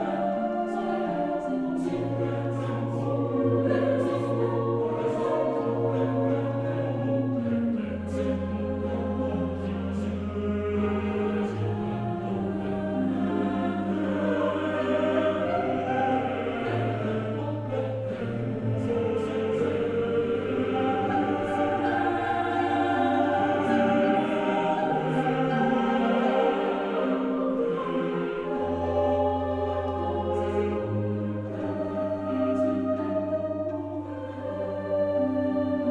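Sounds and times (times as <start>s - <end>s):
choir singing held chords: 0.0s - 35.9s.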